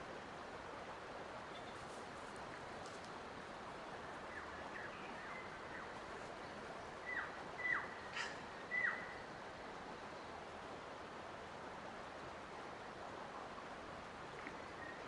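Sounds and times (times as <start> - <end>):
outdoor hiss: 0.0 - 15.0.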